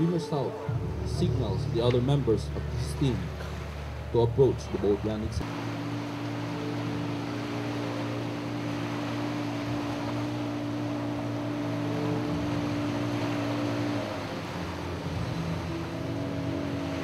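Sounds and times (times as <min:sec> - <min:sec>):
water rushing along hull: 0:00.0 - 0:17.0
outboard motor running: 0:00.5 - 0:17.0.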